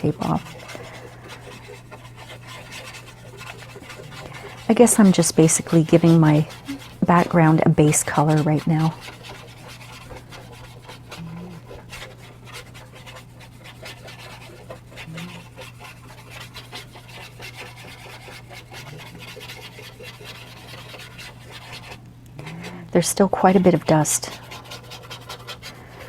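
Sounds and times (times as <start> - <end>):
paintbrush brushing on paper: 0.0 - 26.0.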